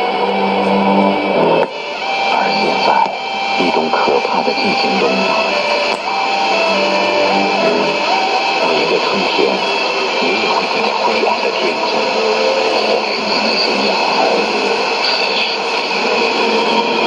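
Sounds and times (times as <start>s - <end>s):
faint radio programme audio: 0.0s - 17.0s
radio static and hiss: 0.0s - 17.0s.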